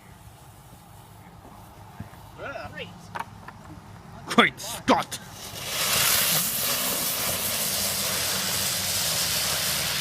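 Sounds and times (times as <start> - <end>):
firework fountain hissing: 0.0 - 2.9, 4.6 - 10.0.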